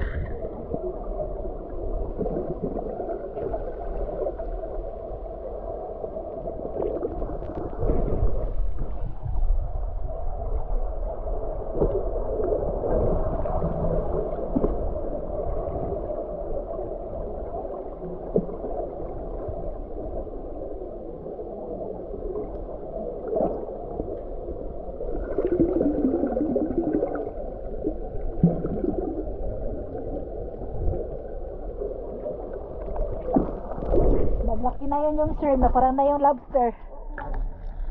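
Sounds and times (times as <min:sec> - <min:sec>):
water gurgling underwater: 0:00.0 - 0:36.1.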